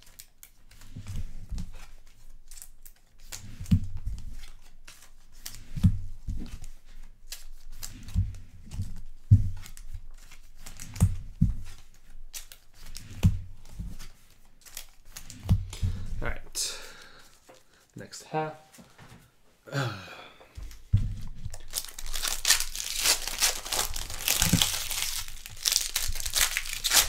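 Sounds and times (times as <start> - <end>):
wrappers rustling and crinkling: 0.0 - 17.9, 20.6 - 27.0.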